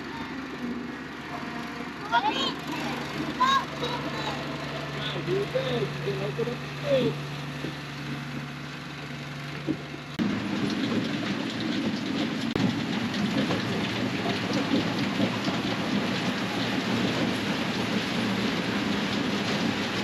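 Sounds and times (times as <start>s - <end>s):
combine harvester clattering: 0.0s - 20.0s
machine hum: 0.0s - 20.0s.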